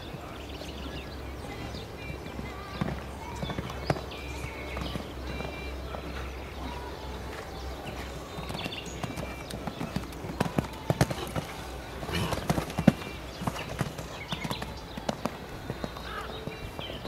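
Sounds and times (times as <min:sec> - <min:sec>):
horse hooves on sand: 0:00.0 - 0:17.0
steady low rumble: 0:00.0 - 0:17.0.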